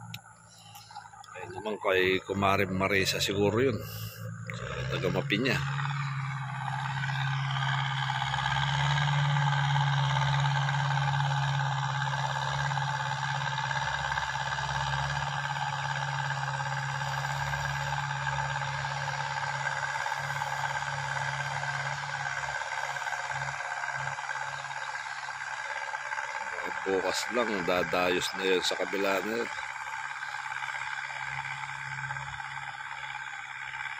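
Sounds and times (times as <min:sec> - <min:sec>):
tractor diesel engine droning: 0:00.0 - 0:33.9.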